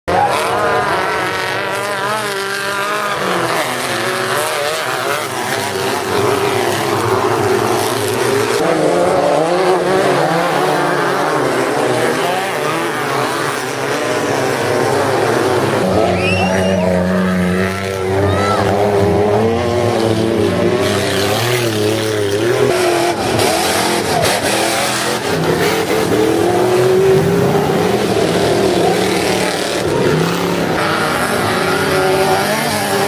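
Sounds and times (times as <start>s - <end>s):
race car engines revving: 0.0s - 33.0s.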